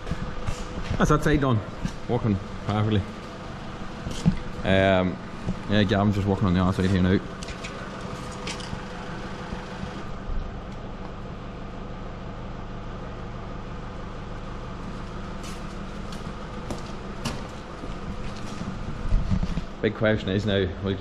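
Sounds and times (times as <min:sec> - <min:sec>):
tractor engine idling: 0:00.0 - 0:20.5.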